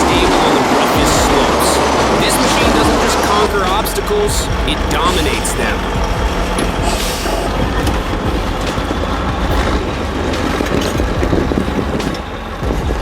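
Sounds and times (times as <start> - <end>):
chassis clattering and rattling: 0.0 - 13.0
truck engine rumbling: 0.0 - 13.0.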